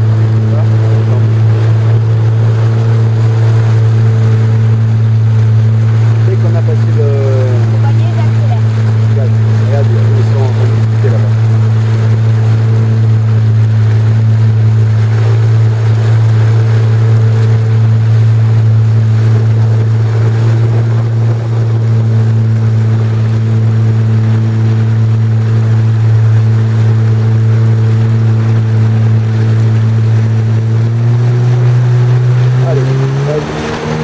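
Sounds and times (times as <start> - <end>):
jet ski engine running: 0.0 - 34.0.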